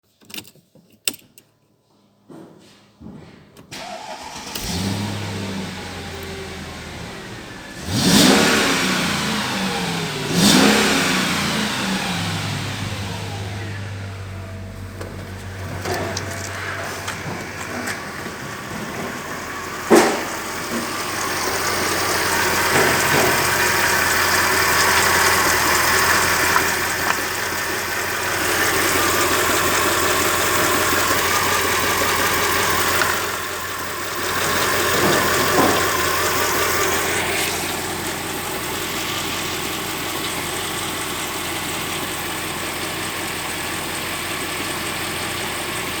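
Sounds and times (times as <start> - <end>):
car engine revving and idling: 3.8 - 46.0.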